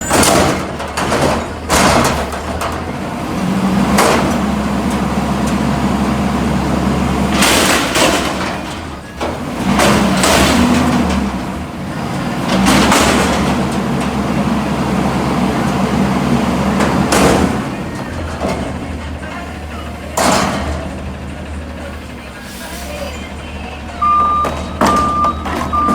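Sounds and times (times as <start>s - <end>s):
garbage truck diesel engine running: 0.0s - 25.9s.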